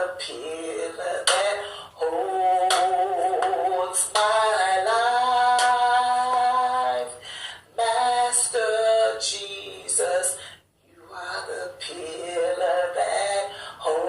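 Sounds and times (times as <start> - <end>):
person singing a worship song: 0.0 - 14.0.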